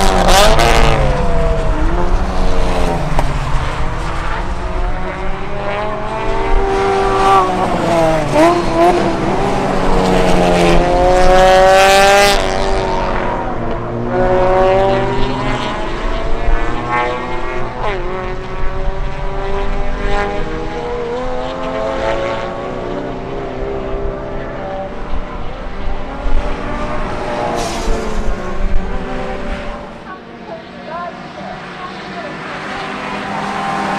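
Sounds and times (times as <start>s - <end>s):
race car engines passing: 0.0s - 33.9s.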